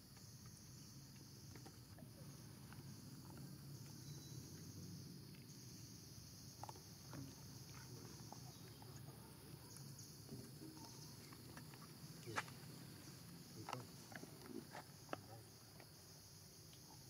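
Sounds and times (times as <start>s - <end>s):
high insect drone: 0.0s - 17.0s
wet clicks of monkey eating: 0.1s - 5.6s, 6.4s - 17.0s.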